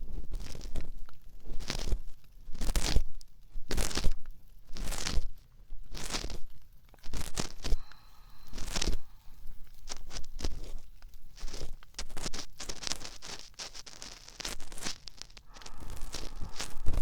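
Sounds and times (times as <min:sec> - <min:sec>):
scratching rubs on microphone: 0:00.0 - 0:17.0.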